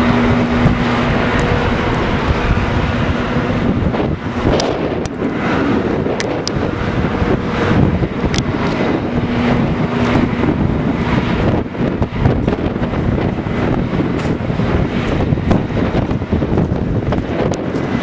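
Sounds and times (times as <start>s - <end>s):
wind gusting against microphone: 0.0s - 18.0s.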